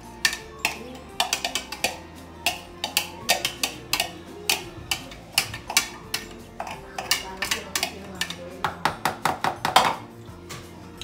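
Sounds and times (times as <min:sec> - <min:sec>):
utensil clicking against bowl: 0:00.2 - 0:09.8.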